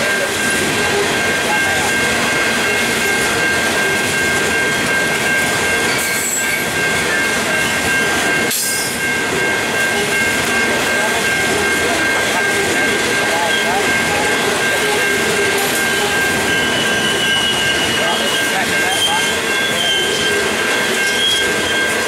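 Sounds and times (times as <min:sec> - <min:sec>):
freight train wheels rumbling: 0:00.0 - 0:22.0
high-pitched ringing tone: 0:00.0 - 0:22.0.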